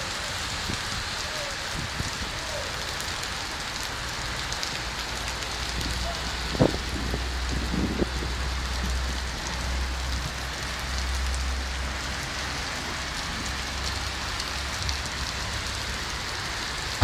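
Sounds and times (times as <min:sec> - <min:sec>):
rain on wet pavement: 0:00.0 - 0:17.0.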